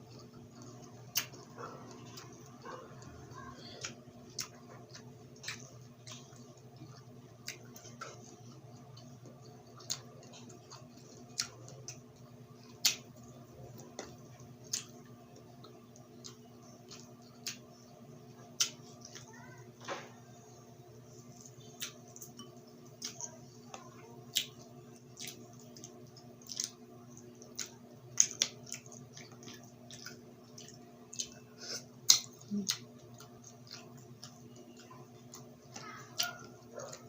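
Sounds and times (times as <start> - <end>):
person chewing food: 0.0 - 19.6, 21.0 - 37.0.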